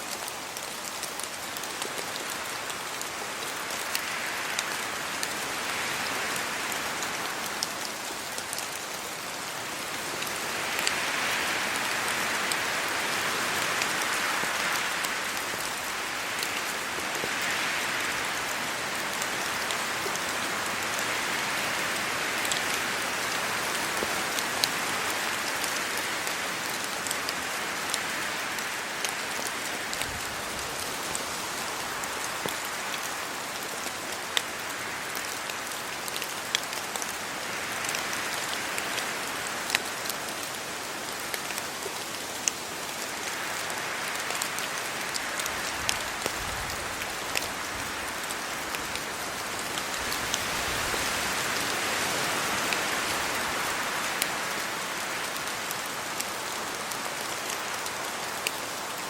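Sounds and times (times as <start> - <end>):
rain falling on leaves: 0.0 - 59.0
wind gusting through foliage: 0.0 - 59.0.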